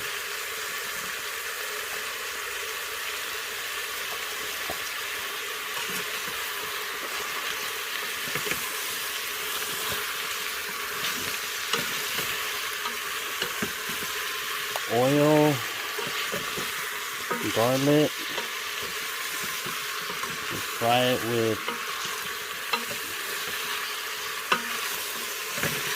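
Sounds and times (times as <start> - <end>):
food sizzling in hot oil: 0.0 - 25.9.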